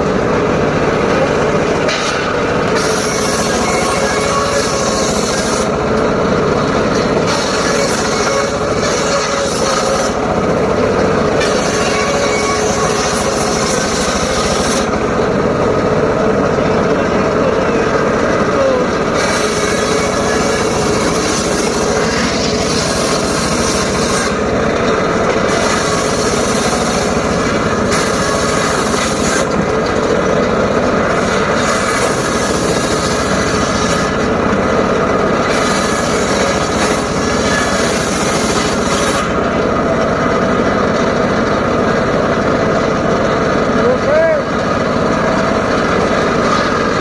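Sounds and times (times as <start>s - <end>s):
circular saw motor running: 0.0s - 47.0s
saw blade cutting wood: 1.0s - 41.2s, 43.8s - 47.0s.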